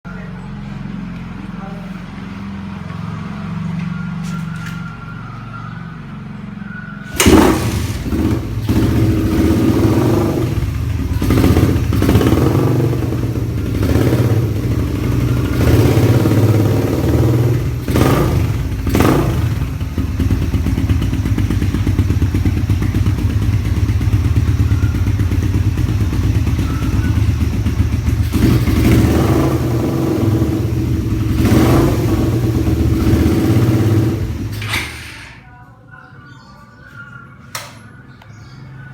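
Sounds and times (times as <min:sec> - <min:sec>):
motorcycle engine revving: 0:02.1 - 0:35.4.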